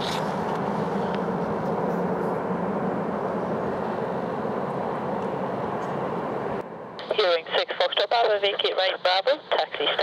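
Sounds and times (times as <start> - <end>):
turboprop engines droning: 0.0 - 10.0.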